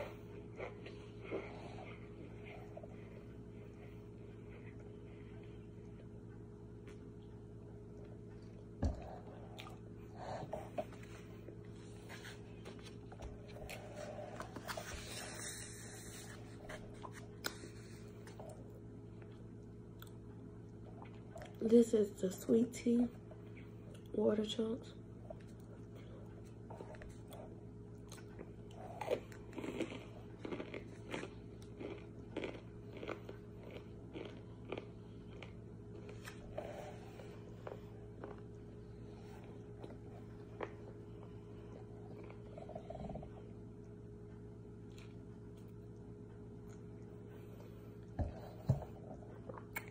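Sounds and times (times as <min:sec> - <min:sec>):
chewing with crunches: 0:00.0 - 0:21.9, 0:25.0 - 0:49.9.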